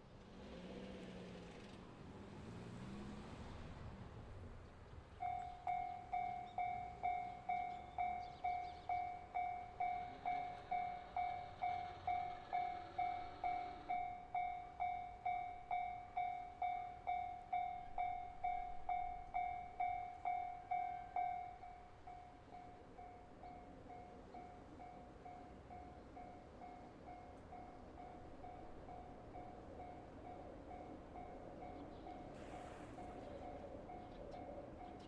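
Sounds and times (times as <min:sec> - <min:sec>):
railroad crossing alarm ringing: 0:05.2 - 0:35.0.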